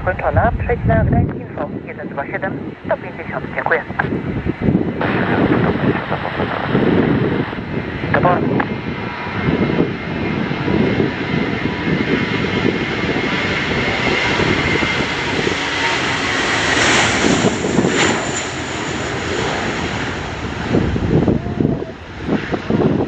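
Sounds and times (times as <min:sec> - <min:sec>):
airliner engines passing: 0:00.0 - 0:23.0
wind buffeting microphone: 0:00.0 - 0:23.0.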